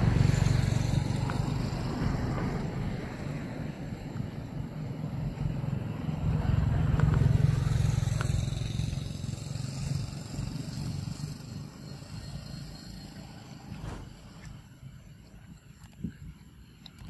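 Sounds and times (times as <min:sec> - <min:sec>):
passing vehicle engine rumble: 0:00.0 - 0:15.2.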